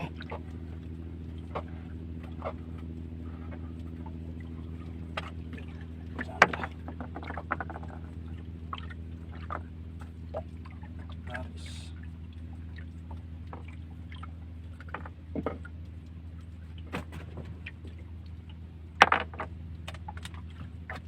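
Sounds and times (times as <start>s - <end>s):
engine running with low hum: 0.0s - 21.0s.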